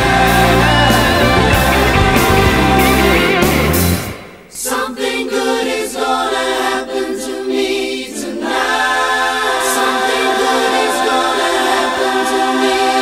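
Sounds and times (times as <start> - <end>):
a cappella vocal harmonies: 0.0 - 3.4, 4.4 - 13.0.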